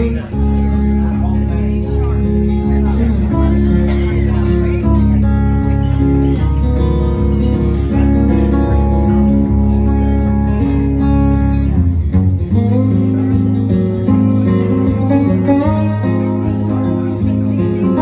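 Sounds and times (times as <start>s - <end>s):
acoustic guitars playing: 0.0s - 18.0s
bass line: 0.0s - 18.0s.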